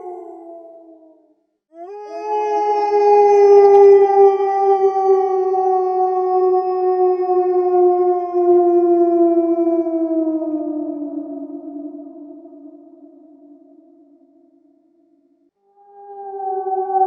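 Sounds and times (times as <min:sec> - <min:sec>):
wolves howling: 0:00.0 - 0:12.6, 0:15.8 - 0:17.0.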